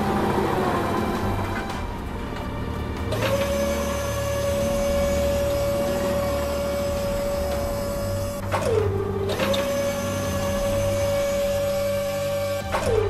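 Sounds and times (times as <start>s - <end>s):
electric winch motor whine: 0.0s - 13.0s
low hum: 0.0s - 13.0s.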